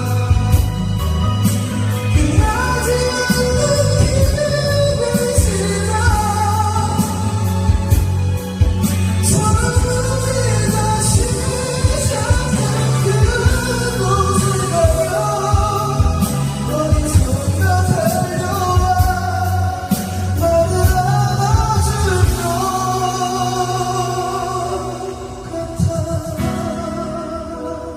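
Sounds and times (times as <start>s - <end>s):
karaoke backing track: 0.0s - 27.9s
person singing pop-rock ballad: 0.0s - 27.9s.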